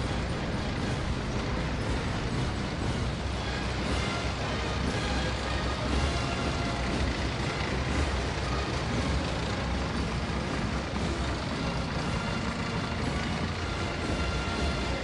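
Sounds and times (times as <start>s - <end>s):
faint military band playing: 0.0s - 15.0s
heavy military vehicles rumbling: 0.0s - 15.0s.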